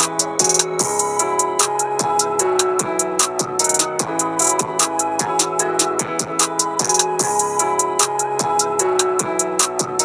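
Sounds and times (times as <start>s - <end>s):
hi-hat strikes: 0.0s - 10.0s
sustained melodic notes: 0.0s - 10.0s.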